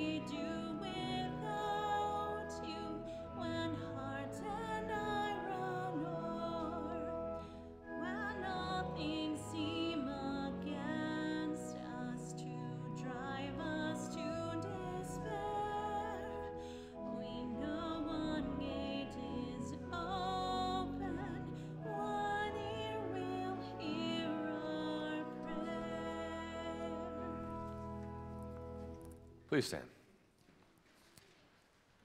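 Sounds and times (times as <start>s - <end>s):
voices singing a hymn: 0.0s - 29.0s
sustained instrumental chords: 0.0s - 29.2s.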